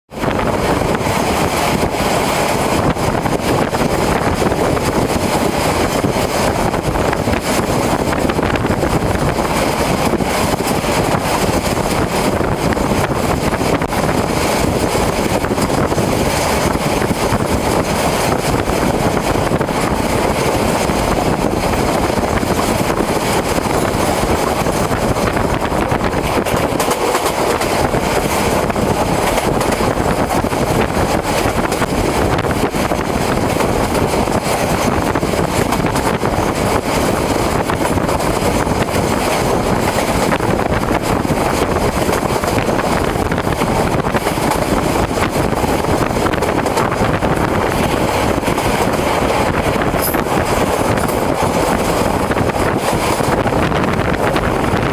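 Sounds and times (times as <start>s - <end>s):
rushing air: 0.1s - 54.9s
train wheels on rails: 0.1s - 54.9s.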